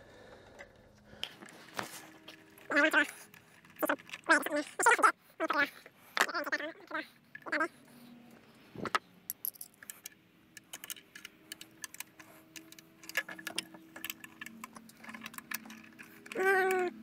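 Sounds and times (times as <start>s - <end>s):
tools clicking and rattling: 0.5s - 7.7s, 8.8s - 17.0s.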